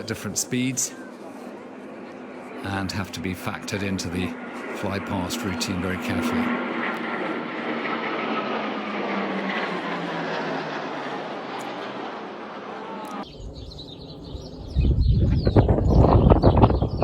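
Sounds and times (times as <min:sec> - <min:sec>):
military aircraft roar: 0:00.0 - 0:17.0.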